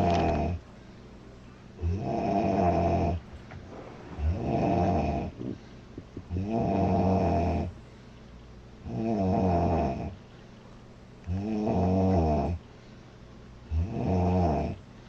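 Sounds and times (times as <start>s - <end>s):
quiet breaths: 0.0s - 15.0s.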